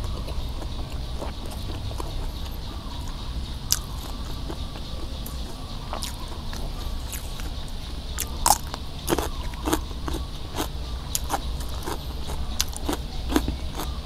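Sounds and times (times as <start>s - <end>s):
chewing crunchy food: 0.0s - 14.0s.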